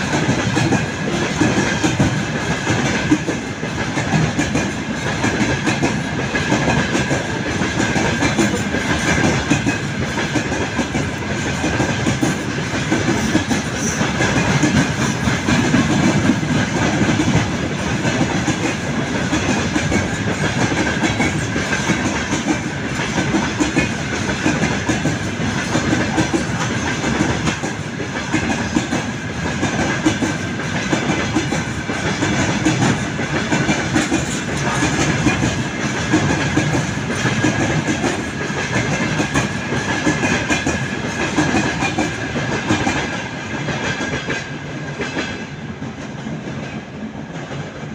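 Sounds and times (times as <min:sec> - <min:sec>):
train wheels clattering over rail joints: 0:00.0 - 0:47.9.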